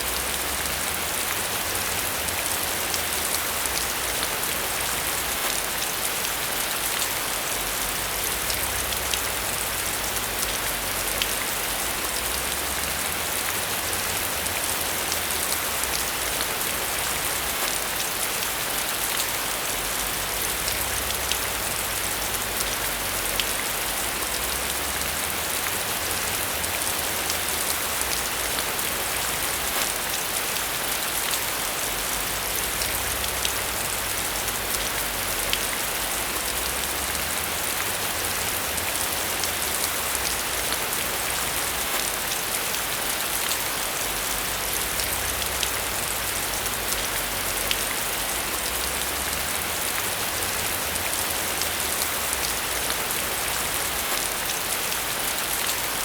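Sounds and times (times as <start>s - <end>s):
rain falling on surface: 0.0s - 56.0s.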